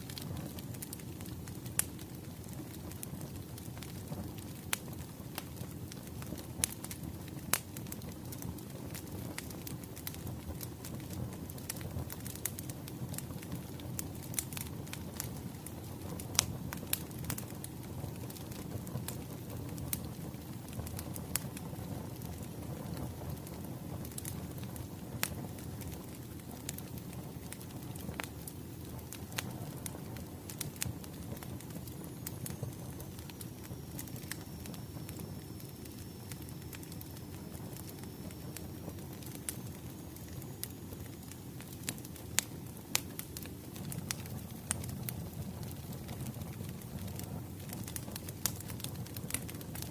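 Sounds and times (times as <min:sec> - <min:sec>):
sharp fire pops: 0:00.0 - 0:49.9
wood fire crackling: 0:00.0 - 0:49.9.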